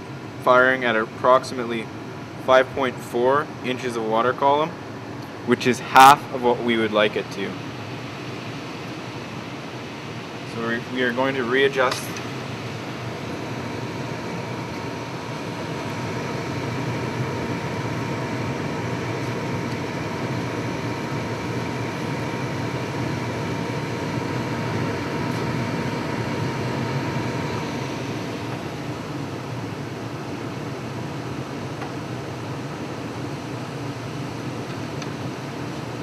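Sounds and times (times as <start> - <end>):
furnace motor and burner rushing: 0.0 - 36.0.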